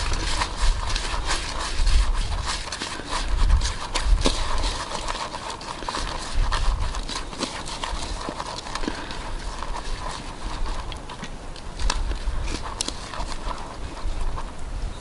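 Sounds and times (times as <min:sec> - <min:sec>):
fingers kneading crumbly dough: 0:00.0 - 0:14.8.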